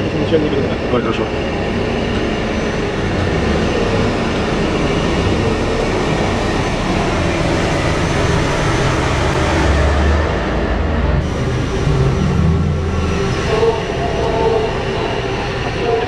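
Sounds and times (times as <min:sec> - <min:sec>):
large vehicle engine rumble: 0:00.0 - 0:16.0.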